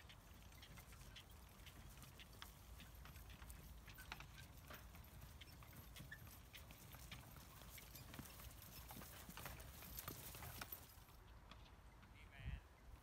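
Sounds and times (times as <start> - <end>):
horses trotting on grass: 0.0 - 12.2.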